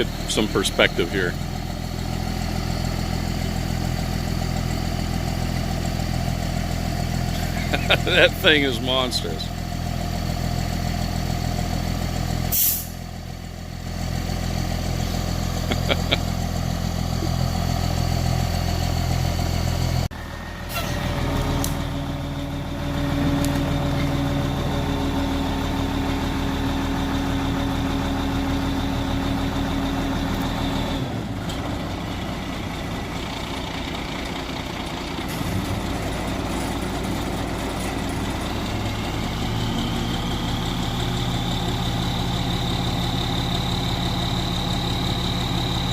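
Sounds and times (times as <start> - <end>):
large engine running: 0.0 - 45.9.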